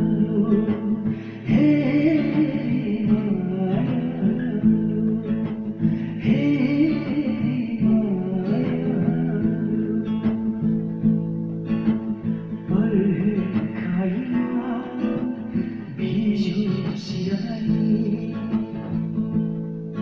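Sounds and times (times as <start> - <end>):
strummed guitar chords: 0.0 - 20.0.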